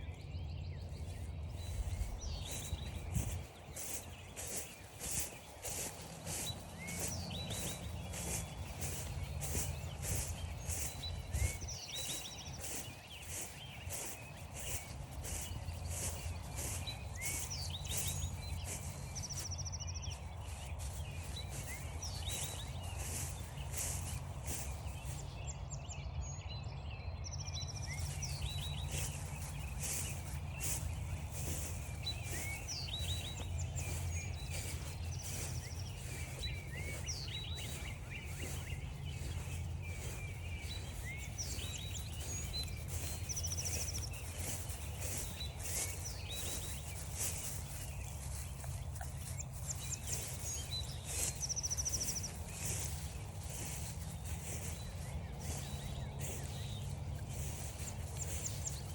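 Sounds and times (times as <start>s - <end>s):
footsteps crunching through frosty grass: 0.0s - 58.9s
songbirds singing: 0.0s - 58.9s.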